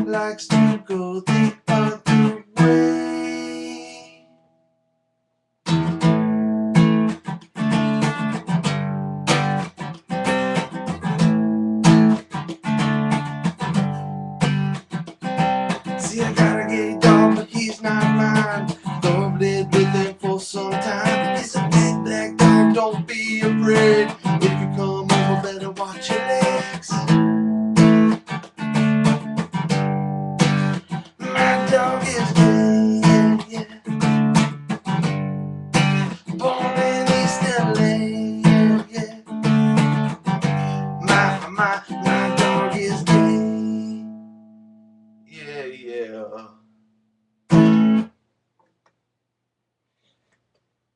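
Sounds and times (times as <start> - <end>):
acoustic guitar strumming: 0.0 - 4.7, 5.7 - 48.2.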